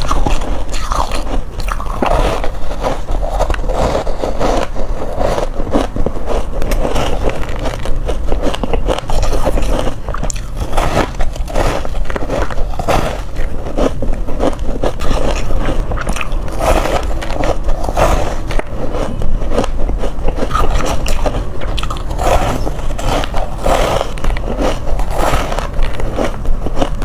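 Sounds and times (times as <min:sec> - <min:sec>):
person crunching ice: 0:00.0 - 0:27.0.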